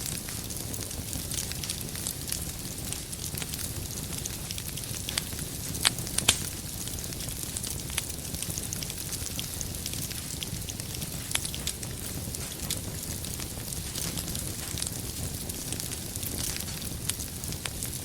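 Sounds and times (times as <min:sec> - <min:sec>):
loud fire pops: 0:00.0 - 0:18.0
wood fire crackling: 0:00.0 - 0:18.0.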